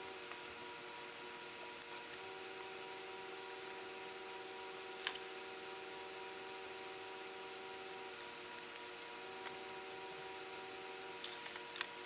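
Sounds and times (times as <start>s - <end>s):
constant hum of held tones: 0.0s - 12.0s.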